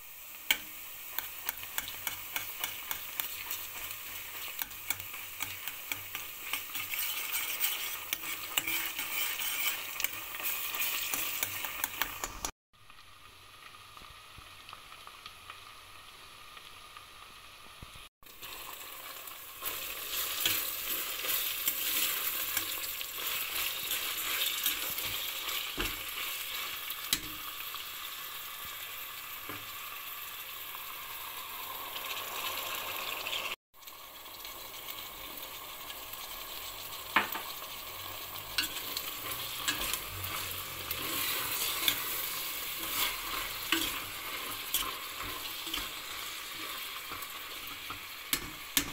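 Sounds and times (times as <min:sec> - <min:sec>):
vegetables sizzling in hot oil: 0:00.0 - 0:48.9.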